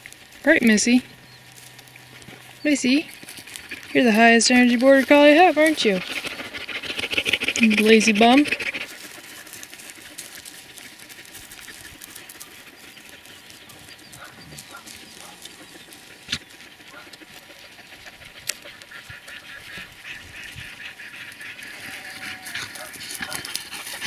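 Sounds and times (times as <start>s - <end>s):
rustling in dry grass: 0.0s - 24.0s.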